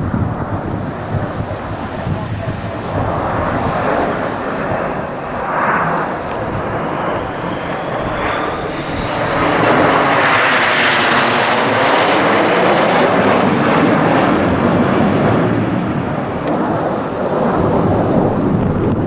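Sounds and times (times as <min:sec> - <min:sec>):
aeroplane flying past: 0:00.0 - 0:19.0.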